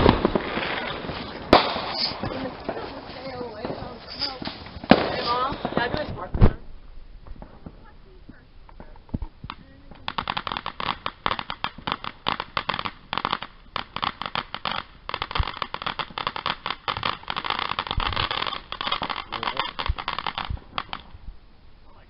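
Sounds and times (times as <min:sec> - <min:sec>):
firework fountain crackling: 0:00.0 - 0:21.4.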